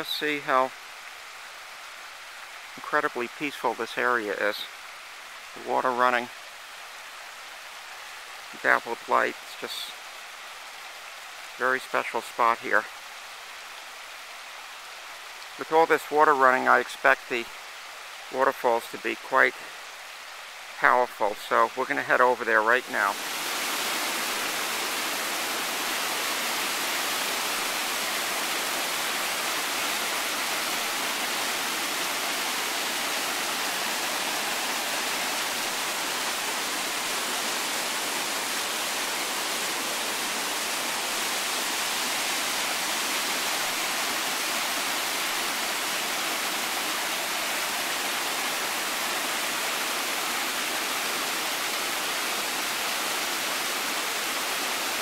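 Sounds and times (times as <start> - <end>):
brook water rushing: 0.0 - 55.0.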